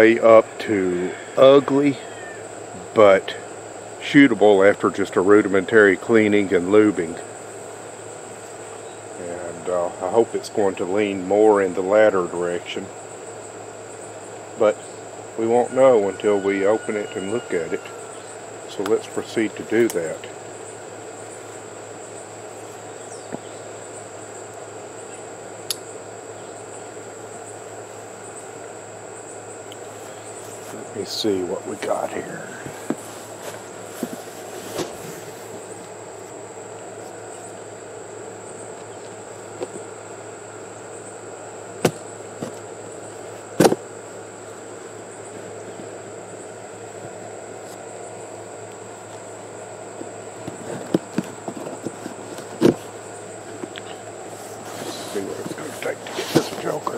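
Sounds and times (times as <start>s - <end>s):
high-pitched insect trill: 0.0s - 56.9s
low outdoor hiss: 0.0s - 56.9s.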